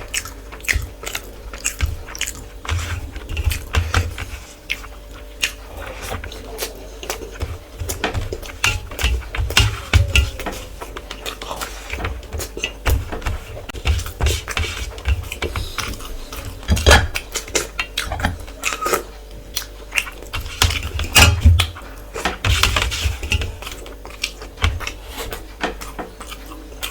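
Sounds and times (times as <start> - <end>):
wet chewing: 0.0 - 22.4, 23.4 - 26.9.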